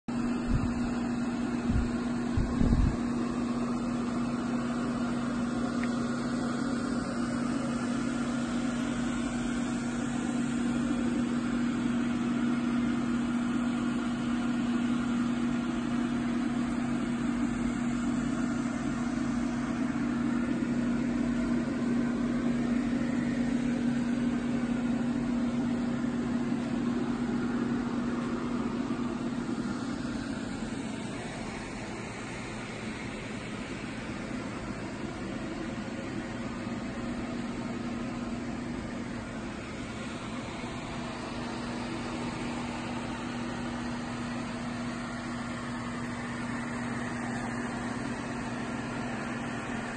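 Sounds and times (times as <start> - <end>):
electric motor humming and whining: 0.1 - 49.9.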